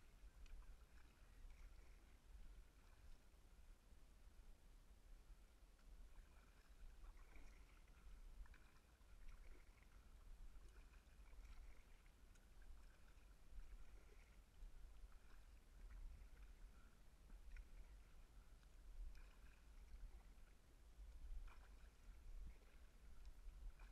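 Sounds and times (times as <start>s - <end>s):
muffled kayak paddle dipping: 0.0s - 23.9s.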